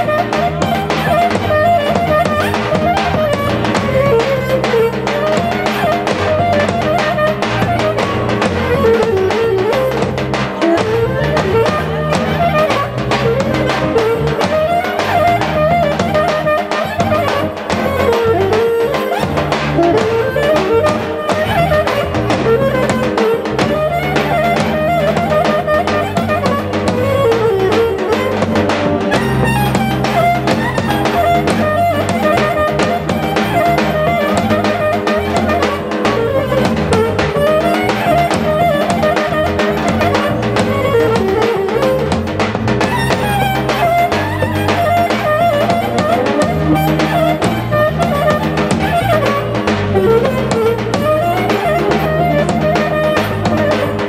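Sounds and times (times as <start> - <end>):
accordion: 0.0 - 54.0
clarinet melody: 0.0 - 54.0
driving drum beat: 0.0 - 54.0.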